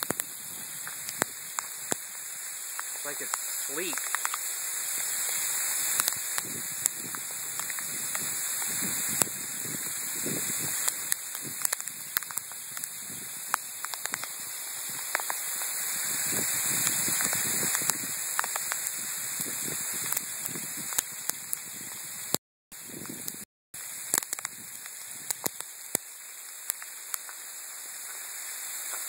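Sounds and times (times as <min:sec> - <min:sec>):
ice pellets ticking on surfaces: 0:00.0 - 0:21.4, 0:24.0 - 0:27.4
sleet and rain hissing: 0:00.0 - 0:29.0.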